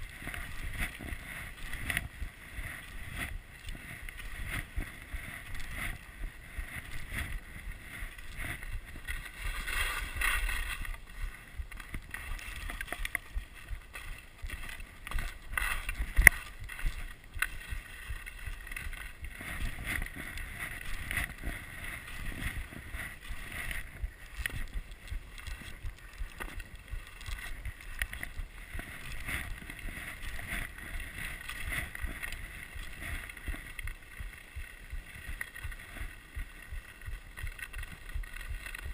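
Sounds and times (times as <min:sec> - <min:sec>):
skis scraping over snow: 0:00.0 - 0:38.9.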